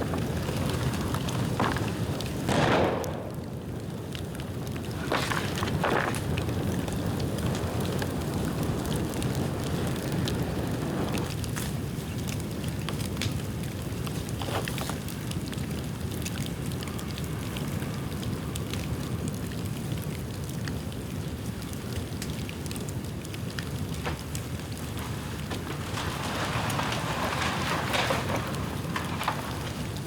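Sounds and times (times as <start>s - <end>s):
bamboo fire crackles and pops: 0.0s - 30.0s
low fire rumble: 0.0s - 30.0s.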